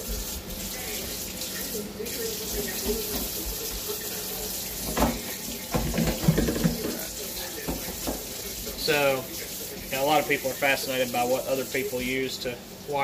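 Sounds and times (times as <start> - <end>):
tap running water into sink: 0.0 - 12.2.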